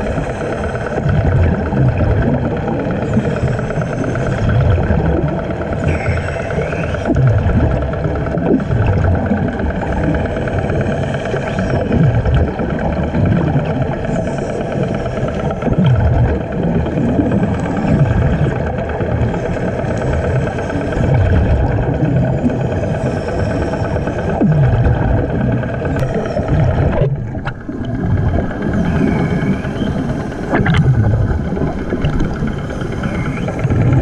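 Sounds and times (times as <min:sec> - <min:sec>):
air bubbles gushing: 0:00.0 - 0:34.0
motor running heard underwater: 0:00.0 - 0:34.0.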